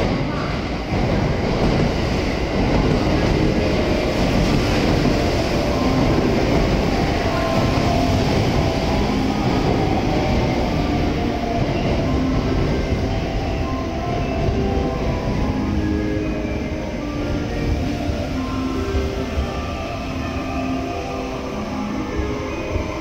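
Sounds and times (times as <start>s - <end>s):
high whine of steady tones: 0.0s - 23.0s
train wheels rumbling on rails: 0.0s - 23.0s.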